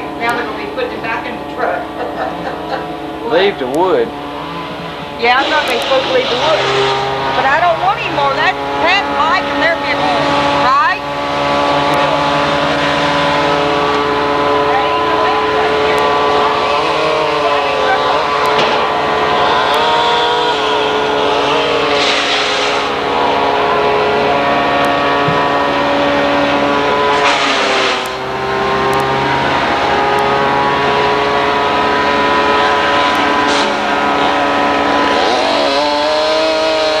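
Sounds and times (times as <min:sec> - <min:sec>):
chainsaw running at high speed: 0:00.0 - 0:37.0.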